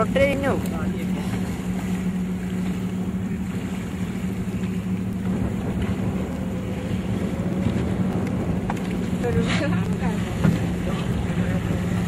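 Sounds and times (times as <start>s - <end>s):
boat engine humming: 0.0s - 12.0s
sea noise: 0.0s - 12.0s
wind: 0.0s - 12.0s.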